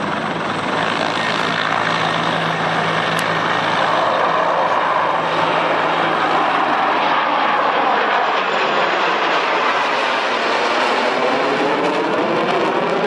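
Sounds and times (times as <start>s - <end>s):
jet engines rushing overhead: 0.0s - 13.0s.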